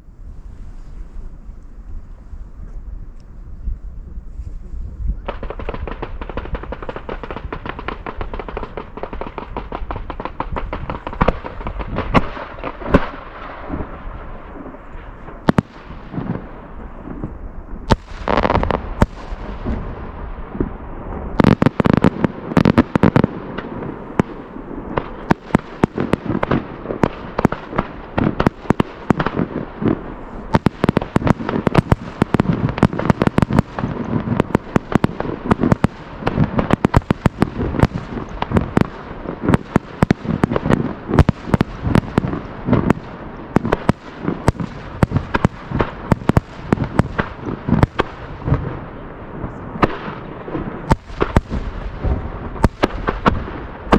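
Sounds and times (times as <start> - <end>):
fireworks booms: 5.1 - 53.9
fireworks crackling bursts: 5.2 - 53.9.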